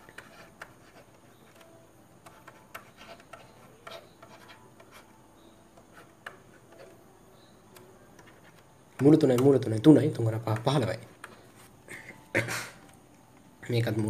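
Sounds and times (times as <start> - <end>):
stylus scratching on drawing tablet: 0.0 - 11.8.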